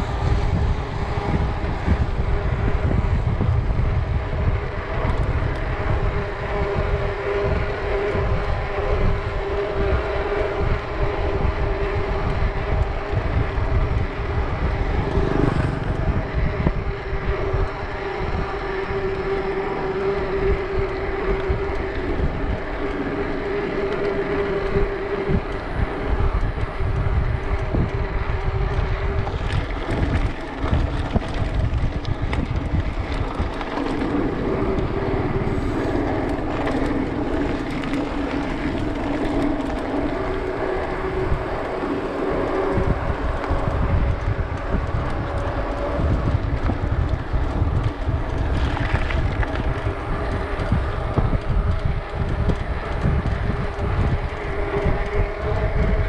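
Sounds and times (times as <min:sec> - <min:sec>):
droning hum: 0:00.0 - 0:56.0
wind buffeting microphone: 0:00.0 - 0:56.0.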